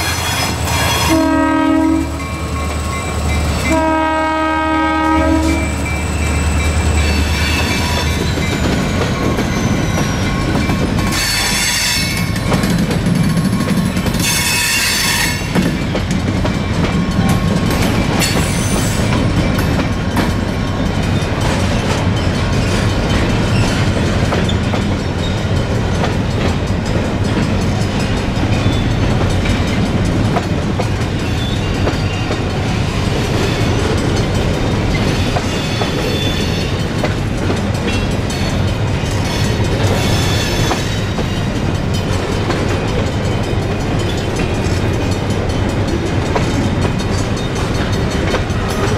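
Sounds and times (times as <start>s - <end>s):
freight train rumbling: 0.0s - 48.9s.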